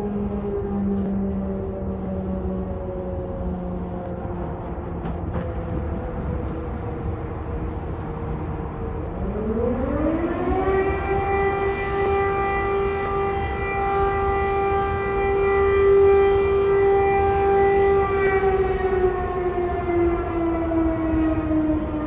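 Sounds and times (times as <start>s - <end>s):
air raid siren wailing: 0.0s - 22.0s.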